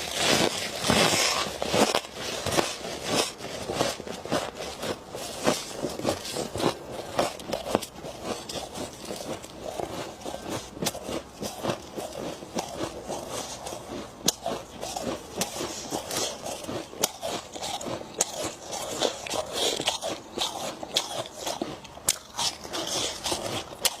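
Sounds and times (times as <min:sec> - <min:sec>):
person chewing crunchy frost: 0:00.0 - 0:24.0.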